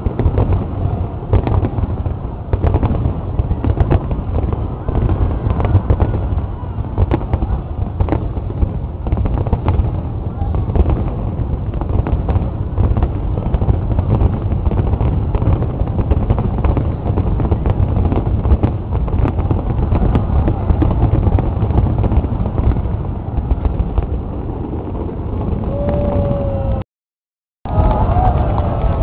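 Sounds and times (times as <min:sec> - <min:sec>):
fireworks bursting and crackling: 0:00.0 - 0:26.8, 0:27.7 - 0:29.0.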